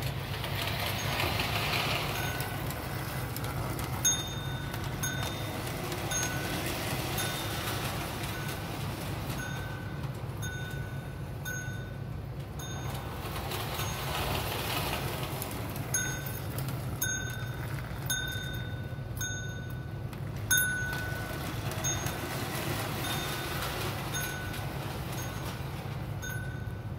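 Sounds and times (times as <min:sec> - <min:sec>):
toy train rumbling on track: 0:00.0 - 0:26.9
toy train bell dinging: 0:00.5 - 0:26.9.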